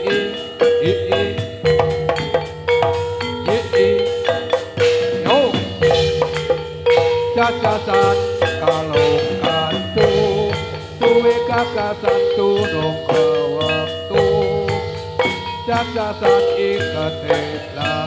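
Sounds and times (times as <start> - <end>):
drum strokes: 0.0 - 18.0
held melody line: 0.0 - 18.0
metallic mallet percussion: 0.0 - 18.0.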